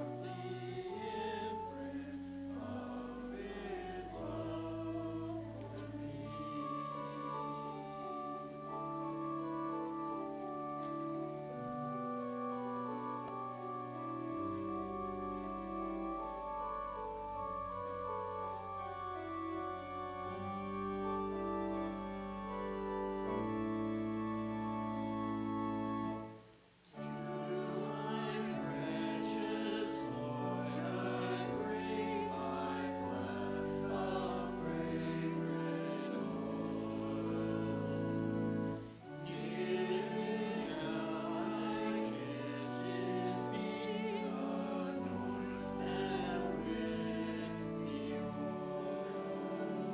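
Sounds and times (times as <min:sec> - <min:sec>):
church organ chords: 0:00.0 - 0:49.9
voices singing a hymn: 0:00.0 - 0:49.9.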